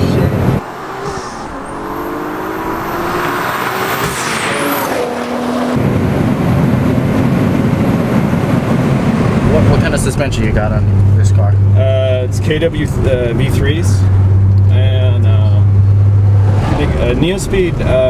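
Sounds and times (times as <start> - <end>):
car engine accelerating hard: 0.0 - 18.0
engine and road noise inside car: 0.0 - 18.0.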